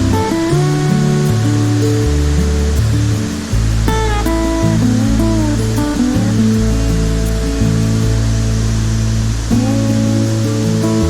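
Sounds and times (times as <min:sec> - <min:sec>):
held bass notes: 0:00.0 - 0:11.0
plucked guitar notes: 0:00.0 - 0:11.0.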